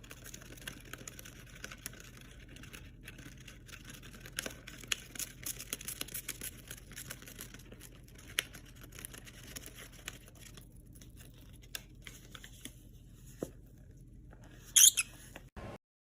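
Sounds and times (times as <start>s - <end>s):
small clicks and scratches: 0.0s - 15.5s.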